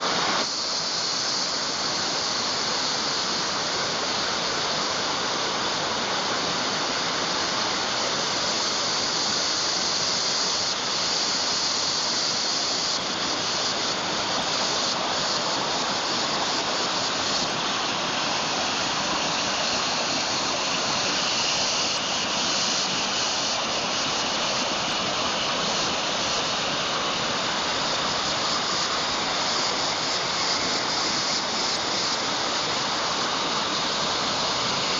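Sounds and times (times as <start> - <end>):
waterfall running: 0.0 - 34.9.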